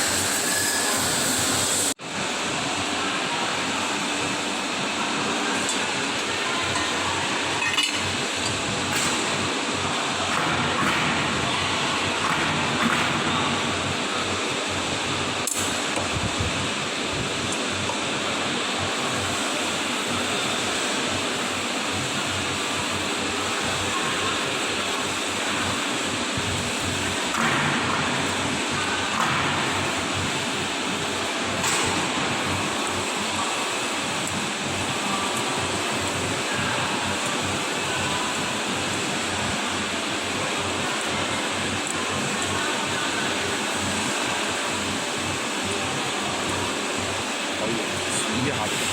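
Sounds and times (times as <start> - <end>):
machinery noise: 0.0 - 48.9.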